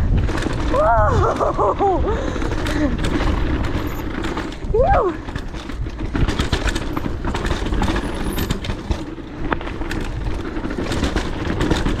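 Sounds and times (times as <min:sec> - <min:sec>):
bike rattling clicks and knocks: 0:00.0 - 0:12.0
bike tyre noise: 0:00.0 - 0:12.0
wind buffeting microphone: 0:00.0 - 0:12.0.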